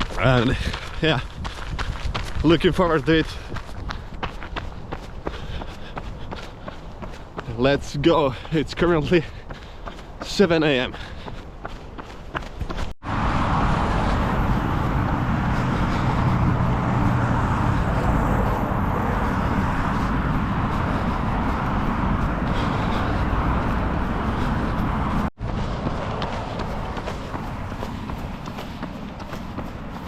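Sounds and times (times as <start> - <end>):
outdoor rushing noise: 0.0 - 30.0.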